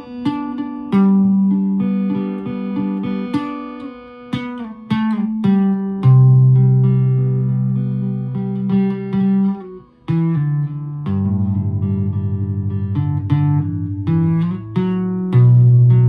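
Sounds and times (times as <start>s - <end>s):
guitar improvisation: 0.0s - 16.0s.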